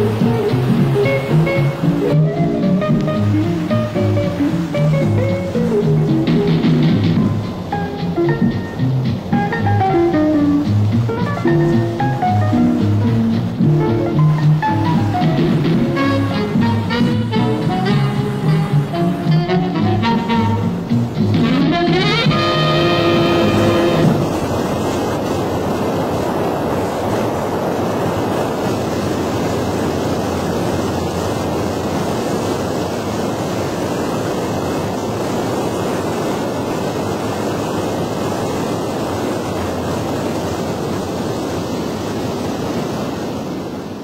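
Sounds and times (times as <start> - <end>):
rushing wind: 0.0 - 44.0.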